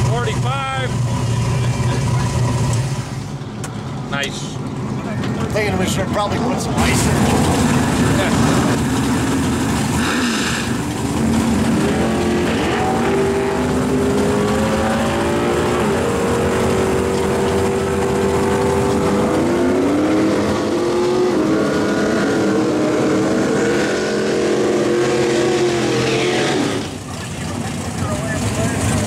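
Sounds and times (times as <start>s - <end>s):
drag racing engines revving: 0.0s - 29.0s.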